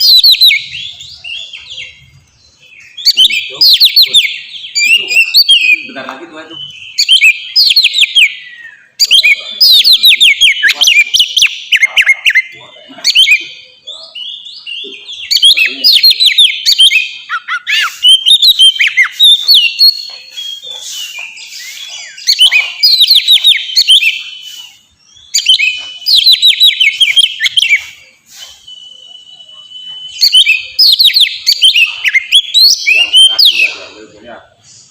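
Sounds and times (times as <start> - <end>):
bird singing whistled notes: 0.0 - 34.9.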